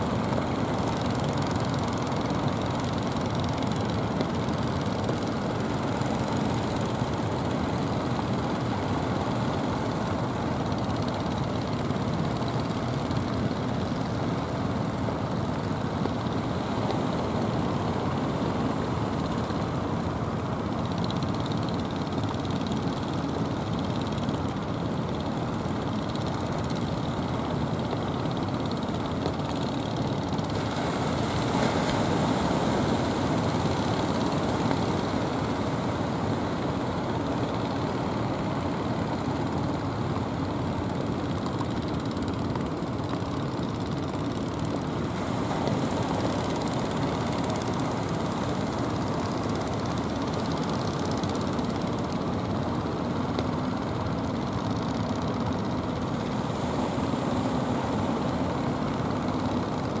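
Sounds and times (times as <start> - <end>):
sea surf: 0.0 - 9.9, 10.6 - 60.0.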